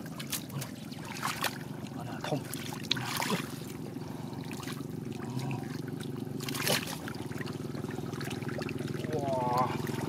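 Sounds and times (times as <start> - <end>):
splashing in muddy water: 0.0 - 10.0
steady low hum: 0.0 - 10.0
sharp splash: 0.1 - 1.7, 2.4 - 3.7, 4.5 - 10.0.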